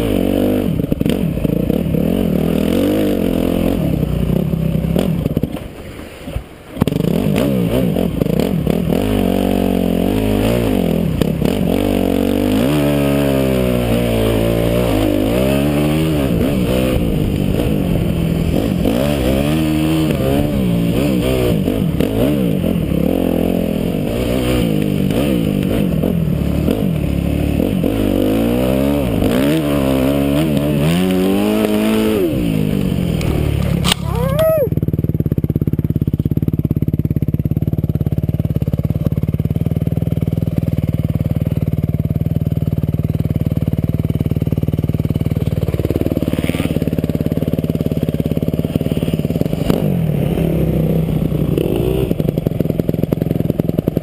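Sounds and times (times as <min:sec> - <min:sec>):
motocross bike engine revving: 0:00.0 - 0:05.6, 0:06.8 - 0:54.0.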